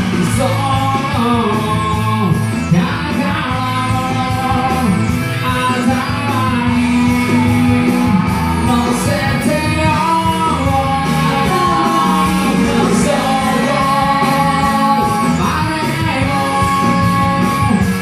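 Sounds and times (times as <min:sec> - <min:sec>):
person singing: 0:00.0 - 0:18.0
rock backing track: 0:00.0 - 0:18.0.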